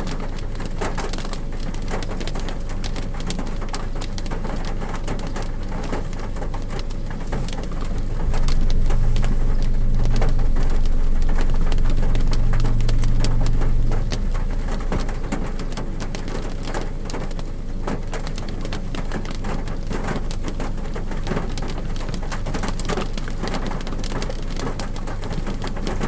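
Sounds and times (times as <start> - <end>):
rain on car roof: 0.0 - 26.0
low hum: 3.6 - 26.0.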